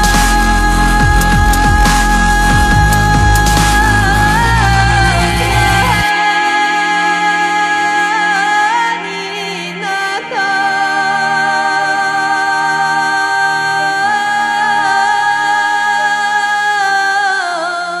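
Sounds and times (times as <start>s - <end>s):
music of sustained notes: 0.0s - 18.0s.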